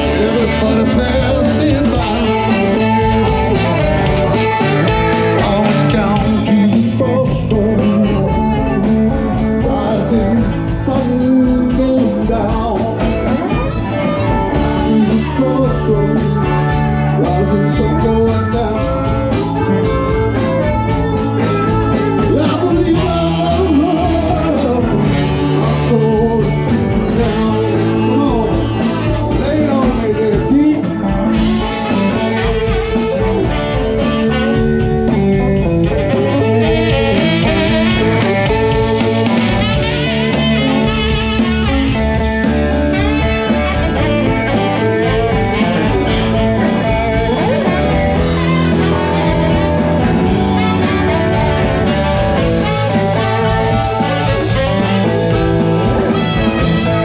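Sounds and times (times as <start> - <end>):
blues band playing: 0.0 - 57.0
electric guitar bent lead notes: 0.0 - 57.0.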